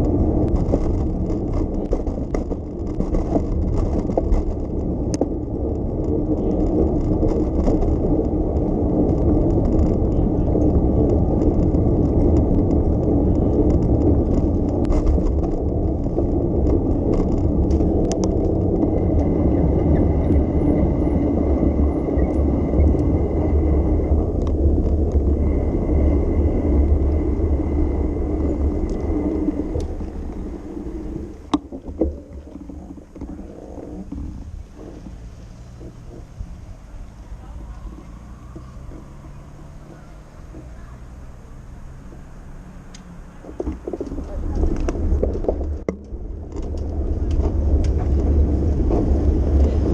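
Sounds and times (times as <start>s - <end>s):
bicycle rumbling: 0.0s - 49.9s
faint steady whine: 0.0s - 49.9s.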